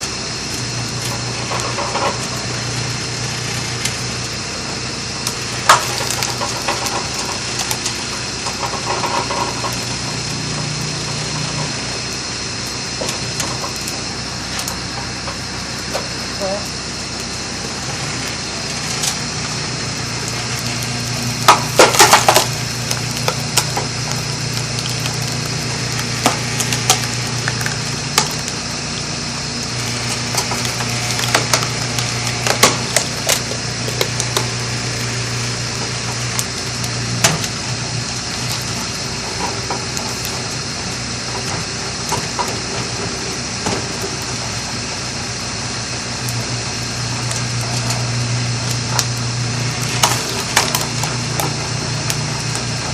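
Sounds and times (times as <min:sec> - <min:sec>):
engine hum: 0:00.0 - 0:52.9
firewood cracking and splitting: 0:00.0 - 0:52.9.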